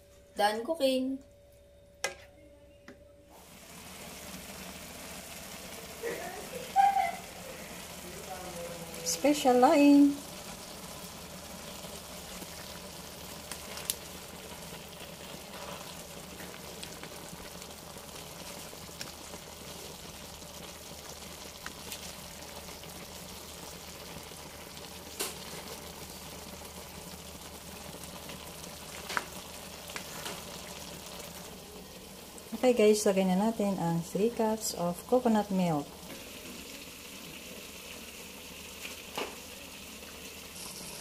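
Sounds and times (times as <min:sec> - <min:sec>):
food sizzling in a pan: 0:03.3 - 0:41.0.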